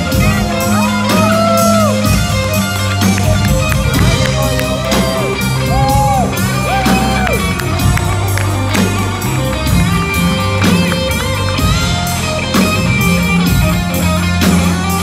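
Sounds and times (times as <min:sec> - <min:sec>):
lead electric guitar bending notes: 0:00.0 - 0:15.0
live band playing: 0:00.0 - 0:15.0.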